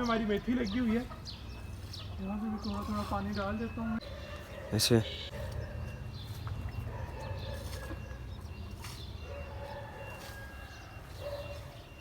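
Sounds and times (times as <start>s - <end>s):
pigeons cooing: 0.6s - 12.0s.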